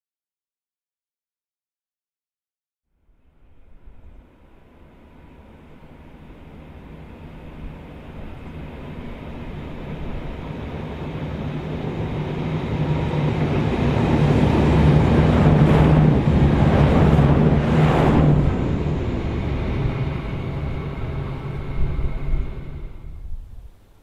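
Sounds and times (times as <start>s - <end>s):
diesel railcar engine drone: 3.3s - 23.4s.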